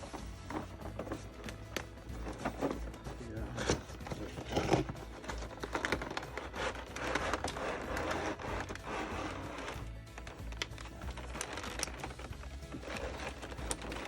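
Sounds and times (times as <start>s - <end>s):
faint background music: 0.0s - 14.0s
plastic packaging crinkling: 0.0s - 14.0s.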